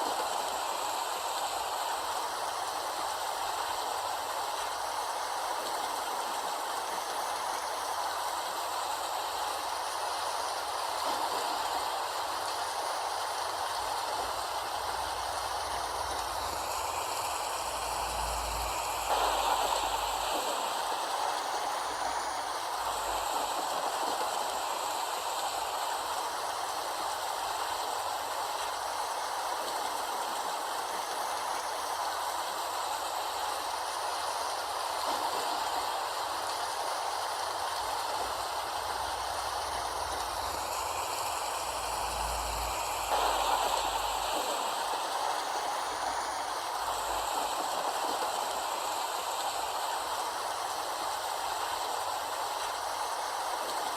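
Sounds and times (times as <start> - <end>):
rain falling: 2.0 - 24.9, 31.8 - 53.9.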